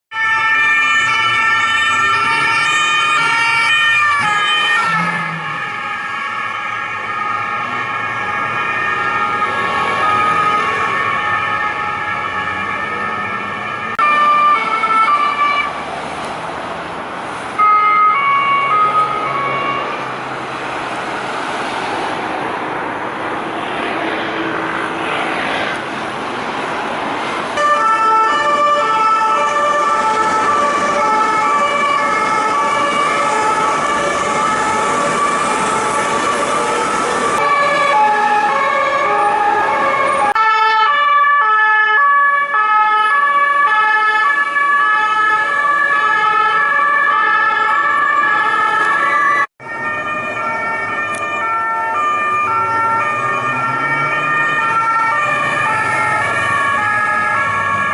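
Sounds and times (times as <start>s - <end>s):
road traffic noise: 0.1s - 57.9s
two-tone police sirens: 0.1s - 57.9s.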